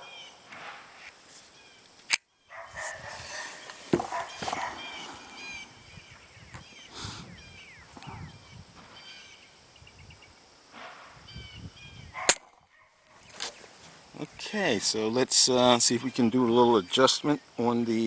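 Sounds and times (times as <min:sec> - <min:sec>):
small birds chirping: 0:00.0 - 0:10.6, 0:11.2 - 0:18.0.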